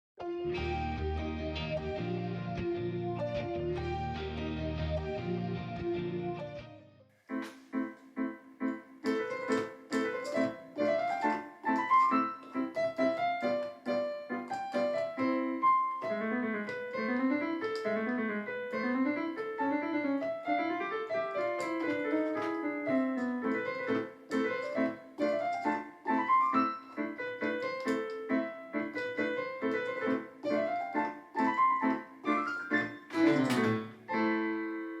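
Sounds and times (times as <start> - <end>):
electronic keyboard piano tune: 0.2 - 35.0.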